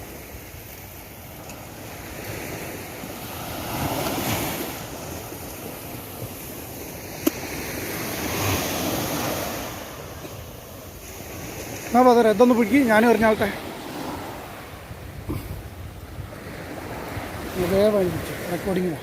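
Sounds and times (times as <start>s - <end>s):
small waves washing on beach: 0.0s - 19.0s
wind on microphone: 0.0s - 19.0s.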